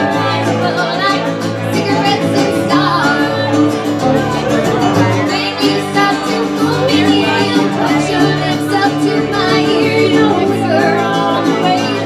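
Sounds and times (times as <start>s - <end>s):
woman singing: 0.0s - 4.1s, 5.0s - 12.0s
guitars strummed and plucked: 0.0s - 12.0s.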